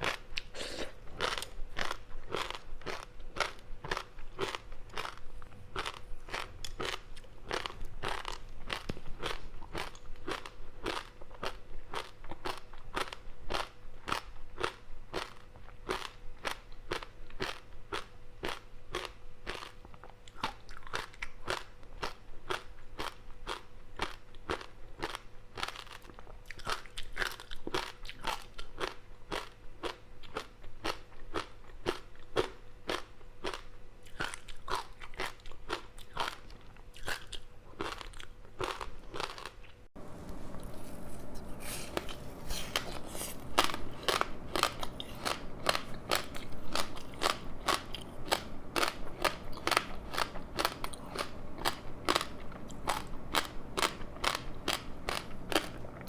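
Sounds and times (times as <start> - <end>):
crunching crispy snack: 0.0 - 39.7, 40.6 - 56.0.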